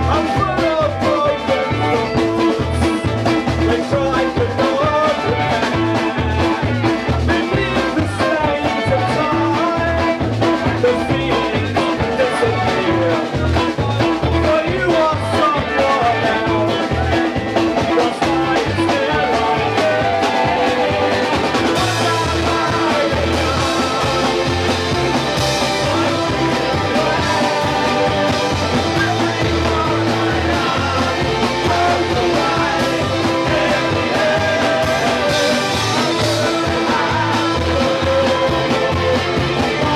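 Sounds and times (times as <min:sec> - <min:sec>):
electric guitar: 0:00.0 - 0:39.9
person singing: 0:00.0 - 0:39.9
upright double bass: 0:00.0 - 0:39.9.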